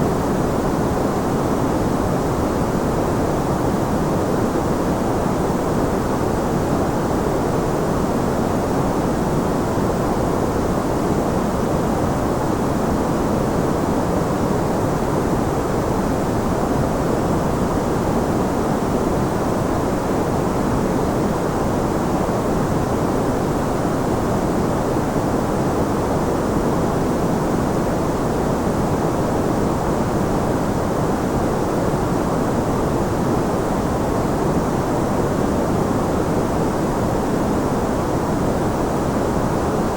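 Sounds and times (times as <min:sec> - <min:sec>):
deep white noise hiss: 0:00.0 - 0:39.9.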